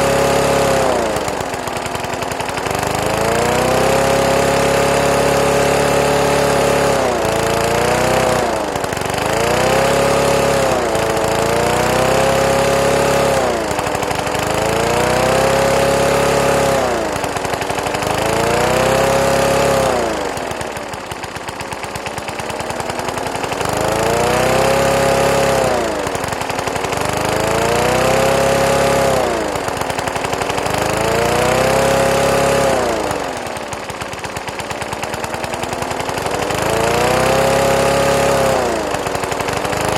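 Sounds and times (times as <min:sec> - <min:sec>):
lawn mower engine surging: 0:00.0 - 0:39.9.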